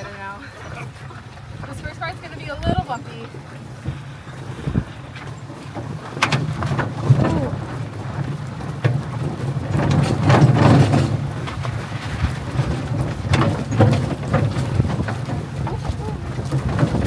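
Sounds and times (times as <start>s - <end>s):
dog sled rattling over trail: 0.0s - 17.0s.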